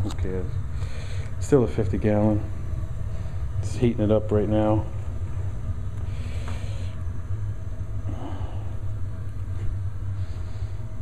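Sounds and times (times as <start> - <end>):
gas burner rumbling: 0.0 - 11.0.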